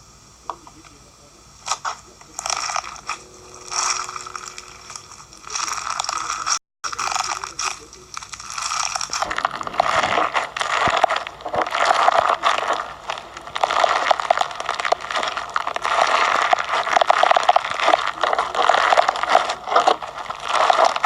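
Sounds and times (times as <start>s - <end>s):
slime crackling when squeezed: 2.4s - 21.0s.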